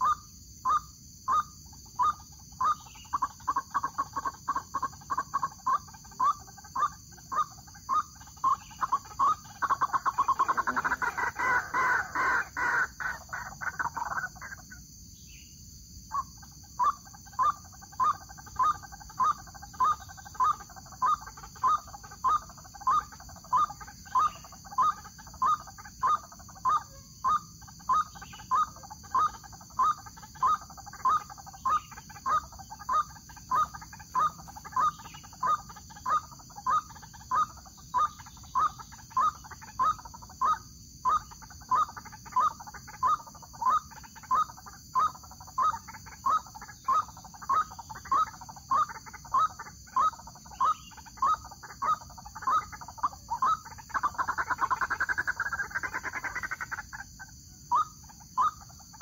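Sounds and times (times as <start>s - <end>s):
waterhen calling: 0.0s - 14.7s, 16.8s - 59.0s.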